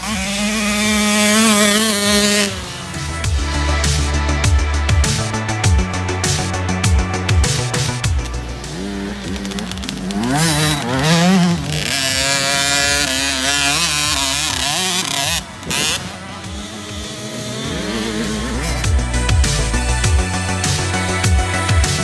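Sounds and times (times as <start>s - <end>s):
two-stroke motorbike engine revving: 0.0s - 4.3s, 7.9s - 22.0s.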